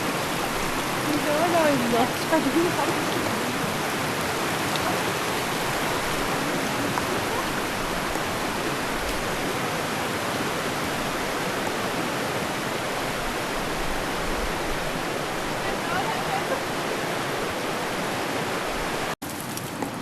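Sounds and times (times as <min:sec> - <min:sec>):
river rushing: 0:00.0 - 0:19.2.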